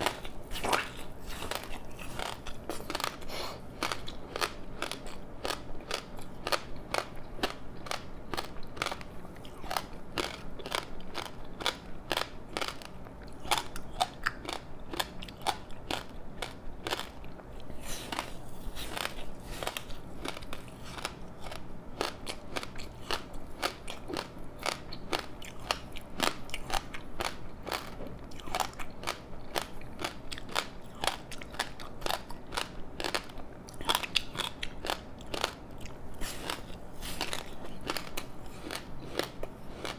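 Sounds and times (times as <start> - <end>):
crunching and chewing crispy snack: 0.0 - 39.9.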